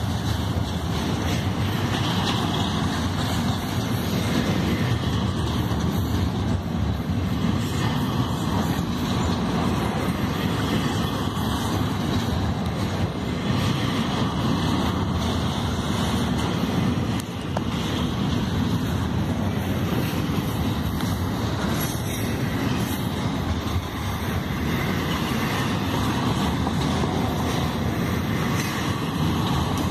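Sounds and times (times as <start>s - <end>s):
freight train rolling past: 0.0s - 29.9s.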